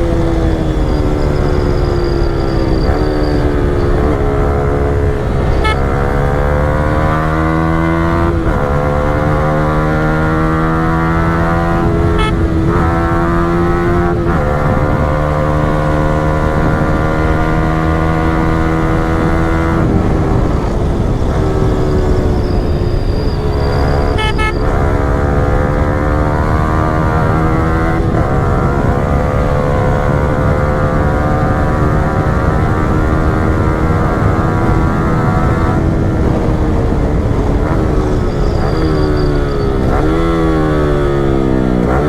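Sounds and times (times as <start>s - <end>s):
motorcycle engine at cruising revs: 0.0s - 42.0s.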